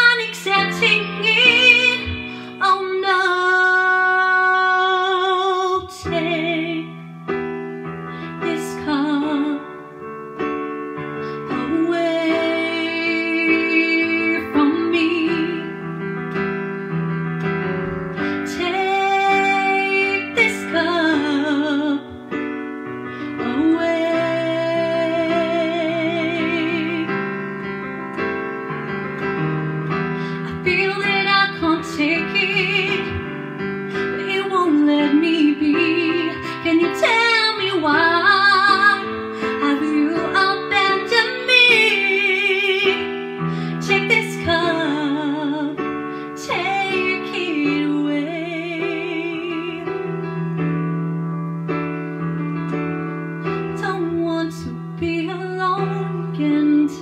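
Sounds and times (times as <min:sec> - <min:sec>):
woman singing: 0:00.0 - 0:07.1, 0:08.3 - 0:16.0, 0:18.1 - 0:27.7, 0:30.2 - 0:50.2, 0:53.4 - 0:57.0
piano chords: 0:00.0 - 0:57.0.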